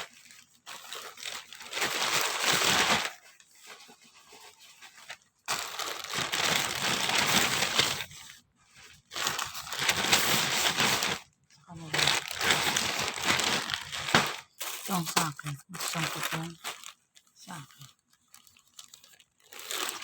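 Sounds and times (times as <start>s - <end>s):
plastic packaging crinkling and tearing: 0.0s - 20.0s.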